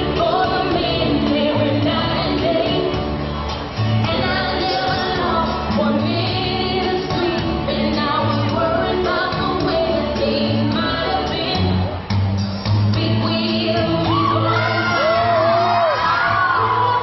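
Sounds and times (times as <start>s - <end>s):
person singing: 0.0s - 3.0s, 4.0s - 12.0s, 12.9s - 17.0s.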